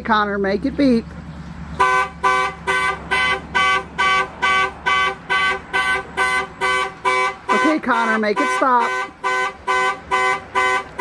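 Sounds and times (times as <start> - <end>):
car horn honking: 1.8 - 11.0.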